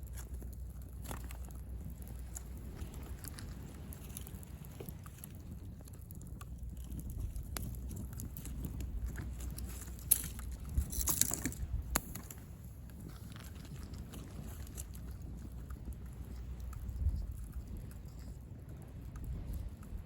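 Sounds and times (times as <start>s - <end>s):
campfire crackling and popping: 0.0s - 20.0s
low steady rumble: 0.0s - 20.0s.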